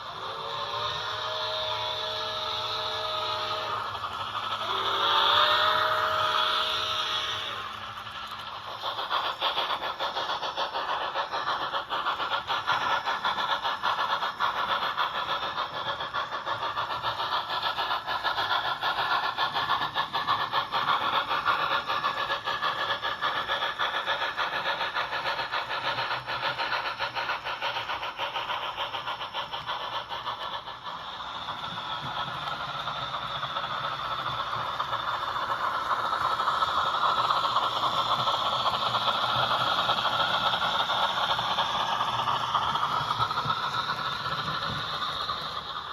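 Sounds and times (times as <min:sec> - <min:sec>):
model locomotive motor rattling: 0:00.0 - 0:45.9.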